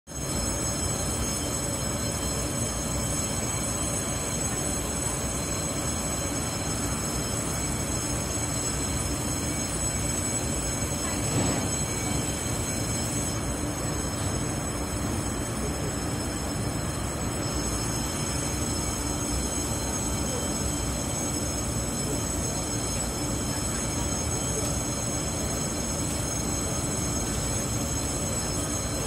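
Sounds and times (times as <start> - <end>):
electric train equipment humming: 0.1 - 29.0
high steady whines: 0.1 - 29.0.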